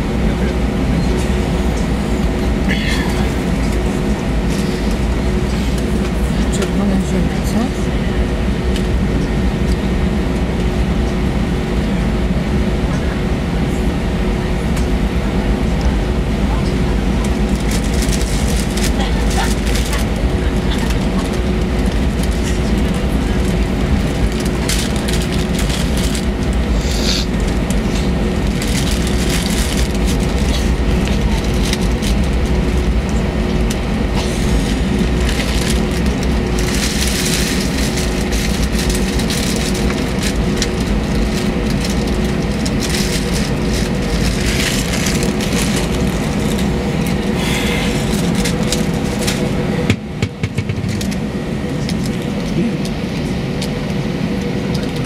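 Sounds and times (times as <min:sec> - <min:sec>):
constant hum: 0:00.0 - 0:55.0
jet engine: 0:00.0 - 0:55.0
wheels rumbling: 0:00.0 - 0:55.0.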